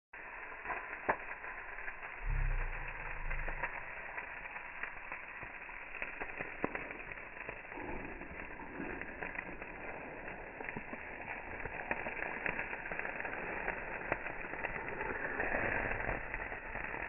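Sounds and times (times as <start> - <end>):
wood fire crackling and popping: 0.2 - 17.0.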